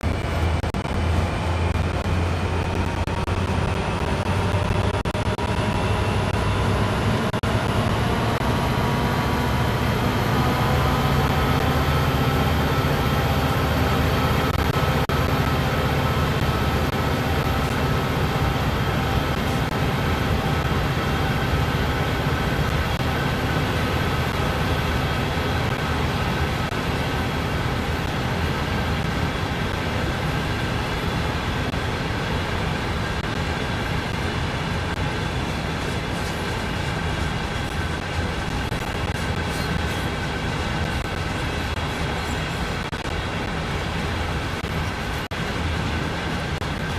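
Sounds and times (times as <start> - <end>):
diesel freight train rumbling: 0.0 - 46.9.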